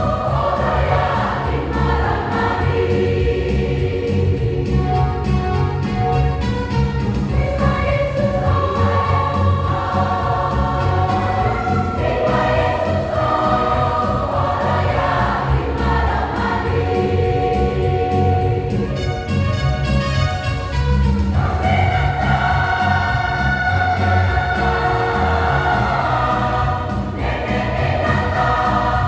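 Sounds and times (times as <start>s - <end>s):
choir singing gospel: 0.0s - 6.5s, 7.2s - 20.5s, 21.2s - 29.0s
accompaniment with bass beat: 0.0s - 29.0s.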